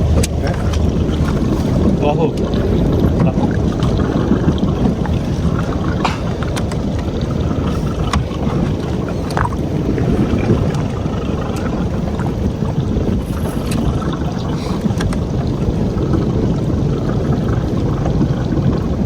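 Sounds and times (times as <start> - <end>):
water noise: 0.0 - 19.0
wind: 0.0 - 19.0.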